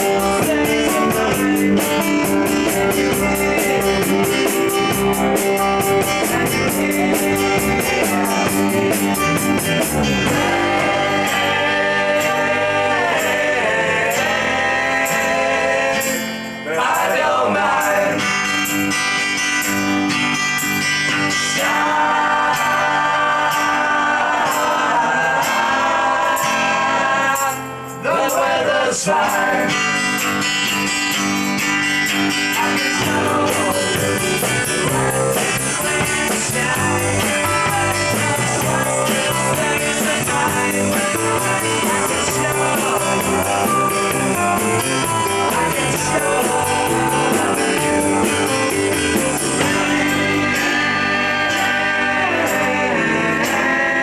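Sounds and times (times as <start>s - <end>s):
electric guitar: 0.0s - 28.3s, 29.0s - 54.0s
rock band playing live: 0.0s - 54.0s.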